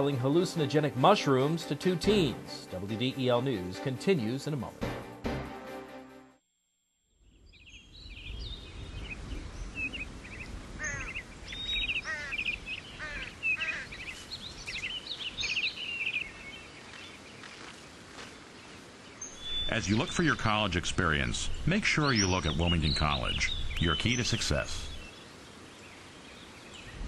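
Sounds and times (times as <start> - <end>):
birds chirping and trilling: 0.0 - 4.8, 7.2 - 27.0.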